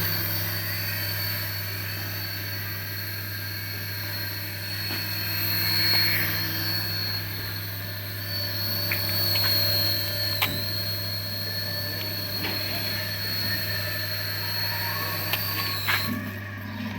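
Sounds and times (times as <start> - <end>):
toy electric motor whining: 0.0 - 16.9.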